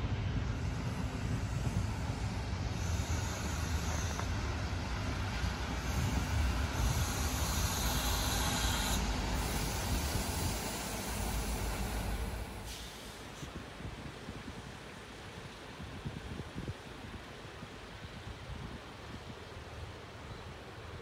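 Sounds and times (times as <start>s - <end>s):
diesel railcar engines running: 0.0s - 21.0s
high hiss: 0.4s - 17.4s.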